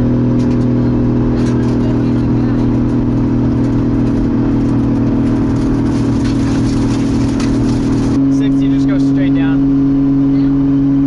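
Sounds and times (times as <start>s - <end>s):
car engine drone from cabin: 0.0s - 11.0s.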